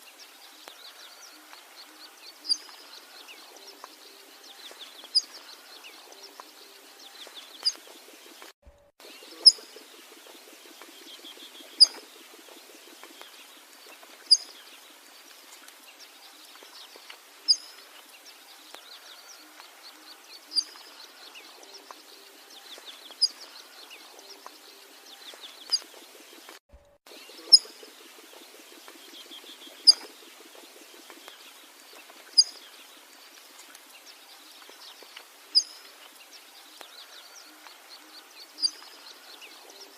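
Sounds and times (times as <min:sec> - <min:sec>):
faint chirping and trilling: 0:00.0 - 0:39.9.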